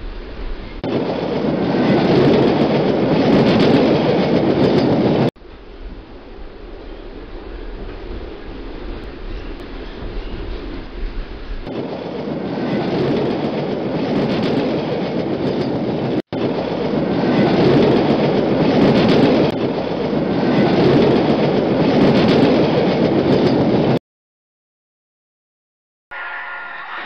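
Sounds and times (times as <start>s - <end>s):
train running on track: 0.0s - 24.0s, 26.1s - 27.0s.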